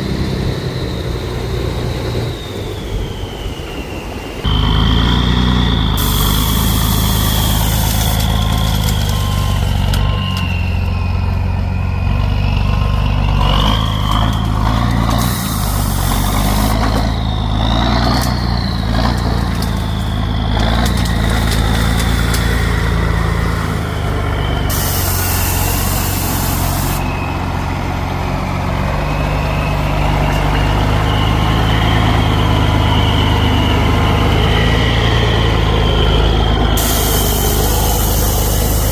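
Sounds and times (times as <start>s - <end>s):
truck engine under load: 0.0s - 3.5s, 4.4s - 38.9s
drivetrain whine: 0.0s - 38.9s.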